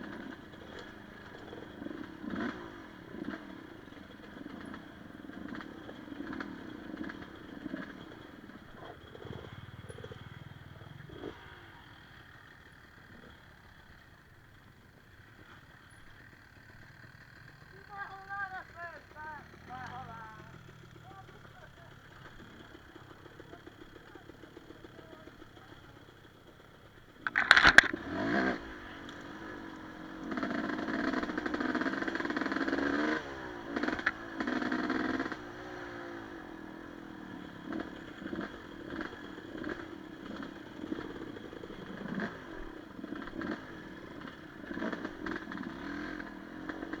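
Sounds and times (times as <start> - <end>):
motorcycle engine revving: 0.0 - 47.0
clatters over rough ground: 0.1 - 47.0.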